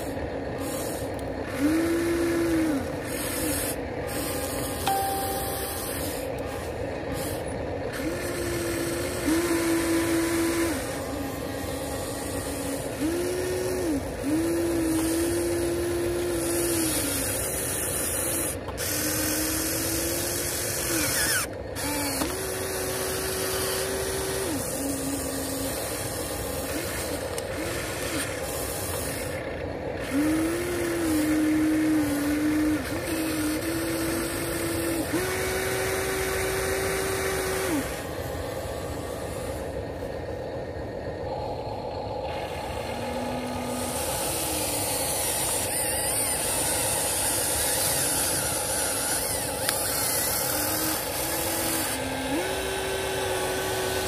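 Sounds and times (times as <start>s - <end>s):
toy excavator motors whining: 0.0s - 54.0s.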